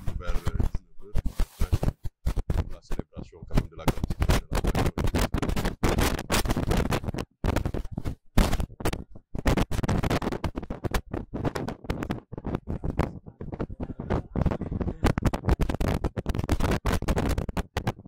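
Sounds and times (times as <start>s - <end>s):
scratching on microphone: 0.0s - 18.0s.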